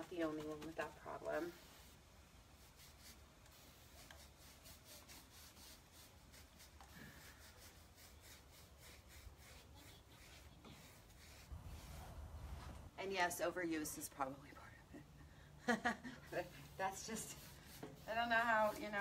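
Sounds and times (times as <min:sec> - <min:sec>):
paintbrush strokes on wood: 0:00.0 - 0:12.9, 0:16.2 - 0:19.0.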